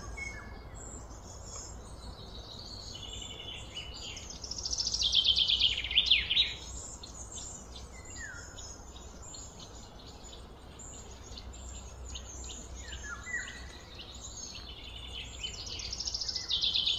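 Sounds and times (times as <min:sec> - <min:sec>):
low steady hum: 0:00.0 - 0:16.8
birds chirping: 0:00.0 - 0:16.9.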